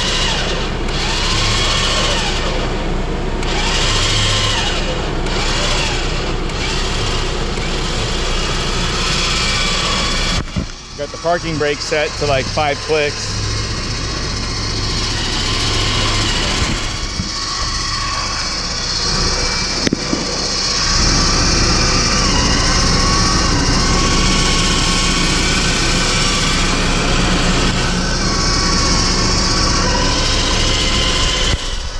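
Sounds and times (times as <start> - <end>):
electric winch motor running: 0.0 - 31.9
engine idling hum: 0.0 - 31.9.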